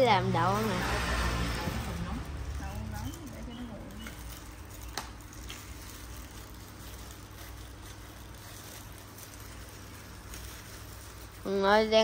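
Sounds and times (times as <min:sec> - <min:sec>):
cloth rustling on leaves: 0:00.0 - 0:12.0
low background hum: 0:00.0 - 0:12.0.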